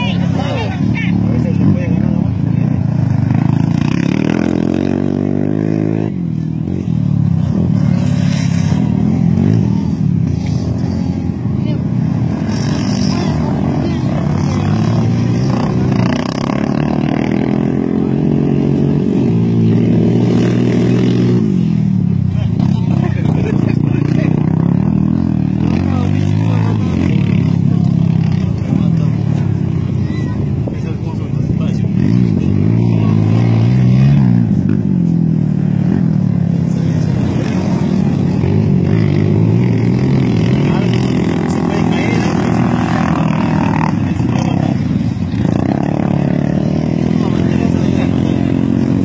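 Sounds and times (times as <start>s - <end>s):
quad engine racing: 0.0s - 49.0s.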